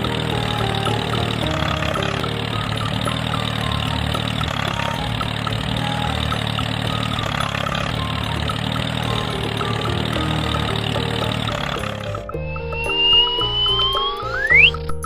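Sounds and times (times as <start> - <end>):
small engine idling: 0.0 - 12.3.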